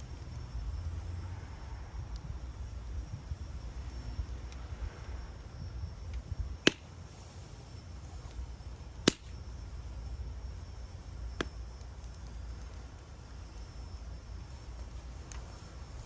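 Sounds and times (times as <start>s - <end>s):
wood fire crackling pops: 0.0s - 16.0s.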